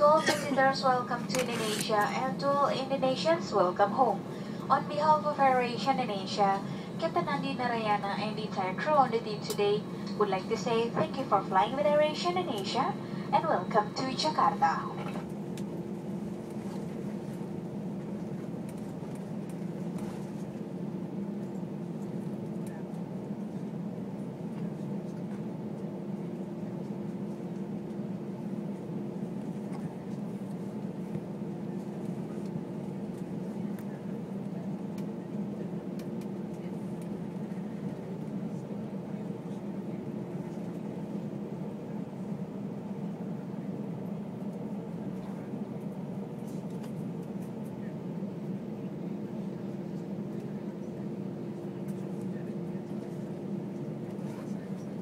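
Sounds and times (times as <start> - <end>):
low aircraft cabin hum: 0.0 - 55.0.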